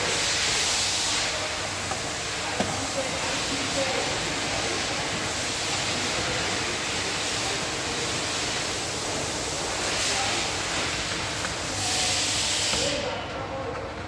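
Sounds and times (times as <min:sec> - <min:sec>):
pedestal fan rushing air: 0:00.0 - 0:14.0.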